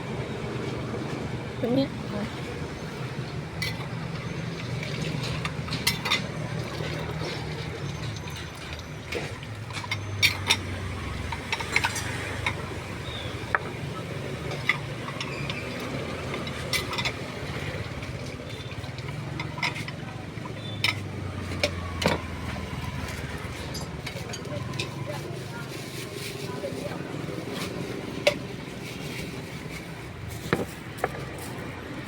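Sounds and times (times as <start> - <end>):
low traffic hum: 0.0 - 32.0
utensils clinking on dishes: 2.4 - 31.8.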